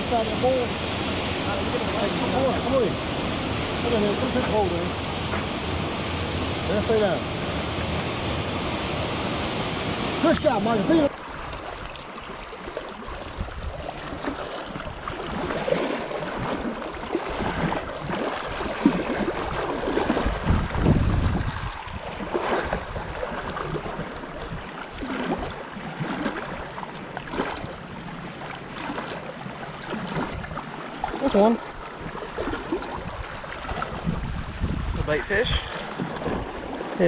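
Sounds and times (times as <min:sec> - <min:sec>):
water waves lapping: 0:00.0 - 0:37.0.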